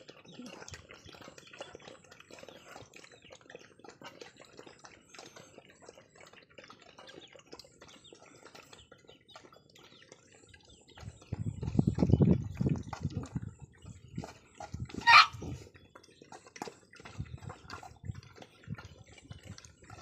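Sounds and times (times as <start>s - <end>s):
puppies lapping and slurping: 0.0s - 20.0s.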